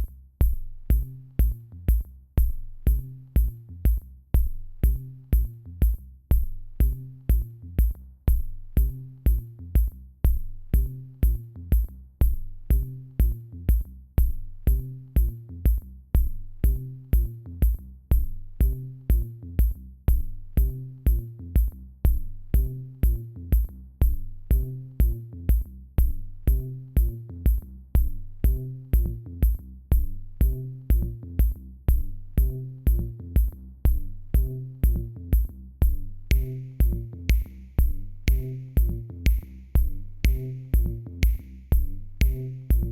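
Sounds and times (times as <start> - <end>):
electronic music with drum-machine beat: 0.0 - 42.9.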